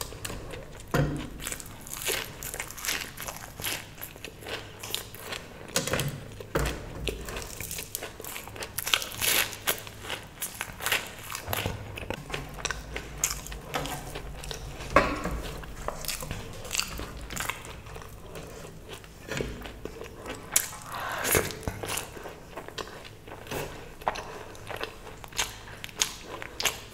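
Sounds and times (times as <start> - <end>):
person chewing with crunches: 0.0 - 26.9.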